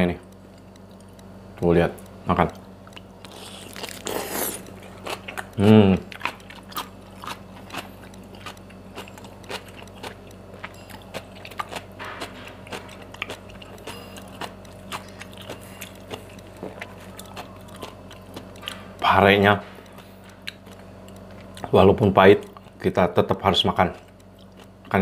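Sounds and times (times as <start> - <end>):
low steady hum: 0.0 - 25.0
wet chewing with mouth clicks: 2.0 - 22.8, 23.7 - 25.0.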